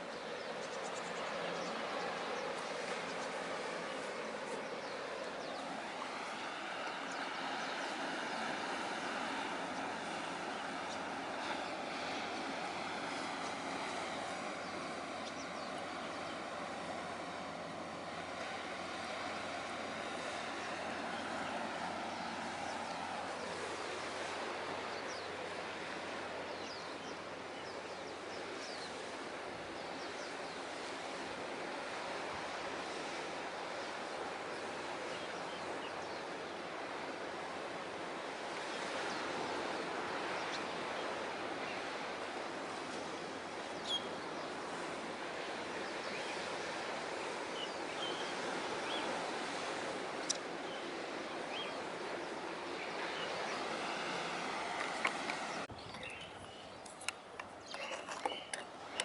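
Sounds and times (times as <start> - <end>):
water noise: 0.0 - 59.0
wind: 0.0 - 59.0.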